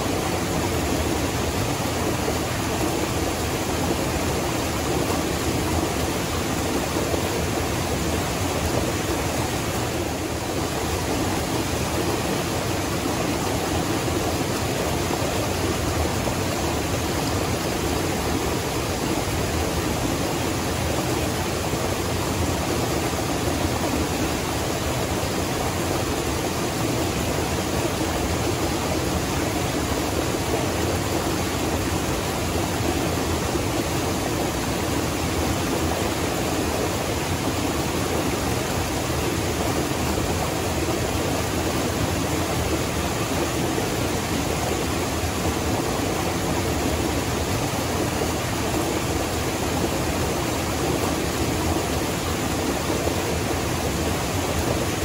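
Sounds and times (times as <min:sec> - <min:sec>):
water rushing over boulders: 0:00.0 - 0:55.0.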